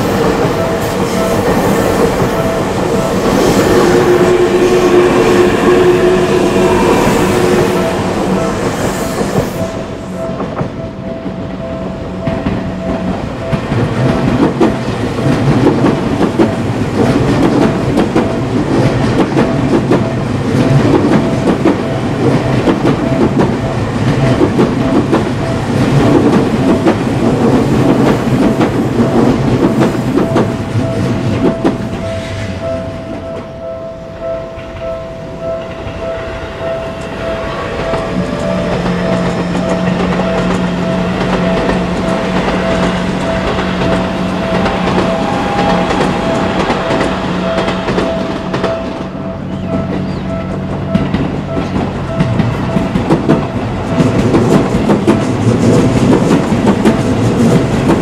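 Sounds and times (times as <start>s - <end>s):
train clattering over rail joints: 0.0s - 33.5s, 36.9s - 58.0s
level crossing warning bell: 0.0s - 58.0s
train low hum: 0.0s - 58.0s.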